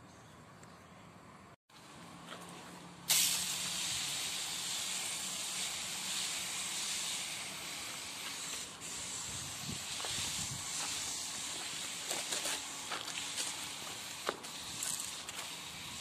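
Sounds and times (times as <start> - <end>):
hand sprayer hissing: 3.1 - 16.0.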